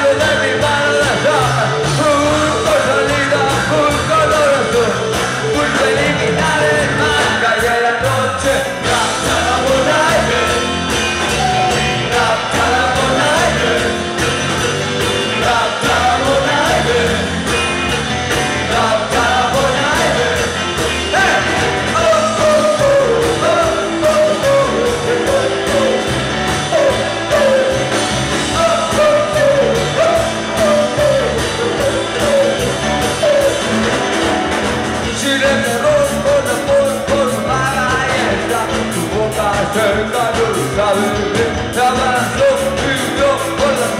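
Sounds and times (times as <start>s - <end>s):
electric bass: 0.0s - 43.9s
electric guitars: 0.0s - 43.9s
rock drums: 0.0s - 43.9s.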